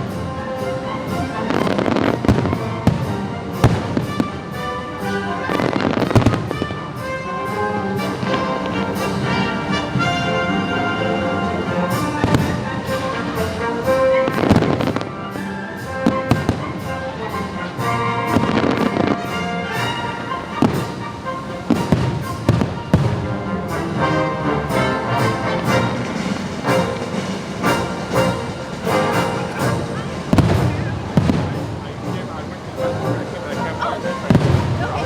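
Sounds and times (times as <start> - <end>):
fireworks bangs: 0.0 - 4.6, 5.2 - 6.8, 8.0 - 15.0, 17.9 - 24.0, 24.7 - 35.0
fireworks crackling: 0.0 - 35.0
orchestral soundtrack: 0.0 - 35.0.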